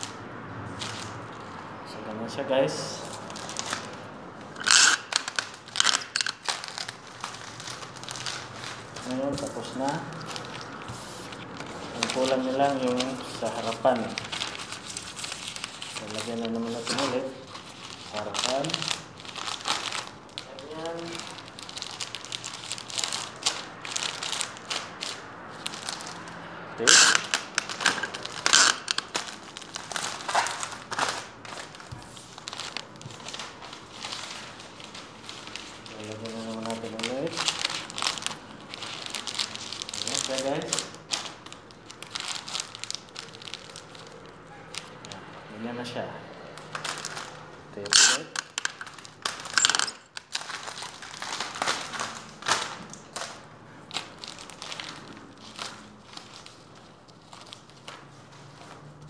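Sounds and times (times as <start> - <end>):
wrapping paper crinkling: 0.0 - 1.7, 2.7 - 45.4, 46.5 - 59.0.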